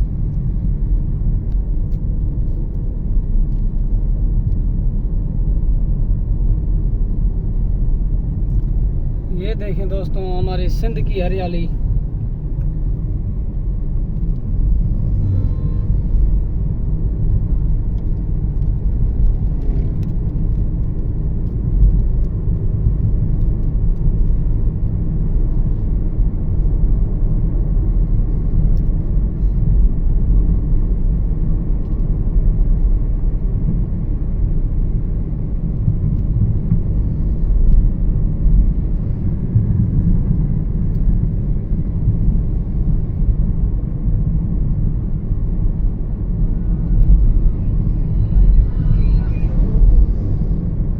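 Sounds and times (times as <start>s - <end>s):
car road rumble from inside: 0.0s - 50.9s.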